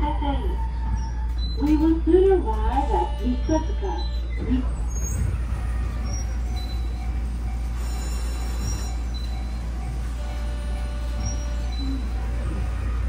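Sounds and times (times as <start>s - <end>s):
low hum inside tram: 0.0s - 13.0s.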